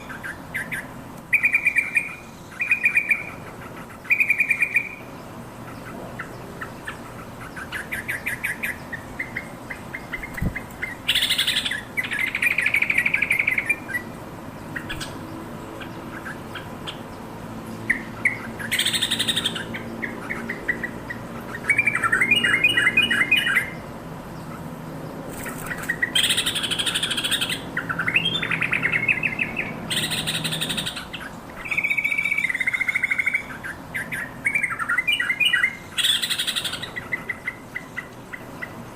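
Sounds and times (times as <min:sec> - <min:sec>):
bird chattering calls: 0:00.0 - 0:17.1, 0:17.8 - 0:23.8, 0:25.3 - 0:38.9.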